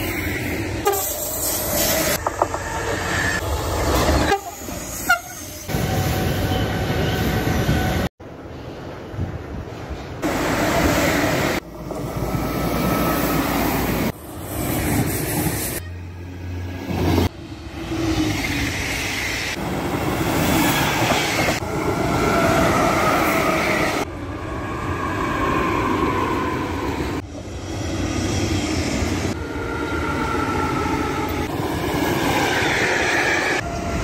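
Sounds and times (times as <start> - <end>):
trains passing: 0.0 - 34.0.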